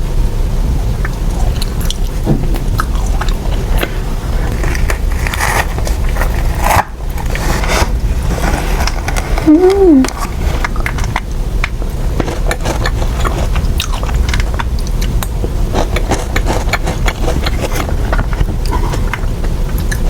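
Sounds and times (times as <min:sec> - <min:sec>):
steady low rumble: 0:00.0 - 0:20.0
person biting and chewing: 0:01.0 - 0:20.0.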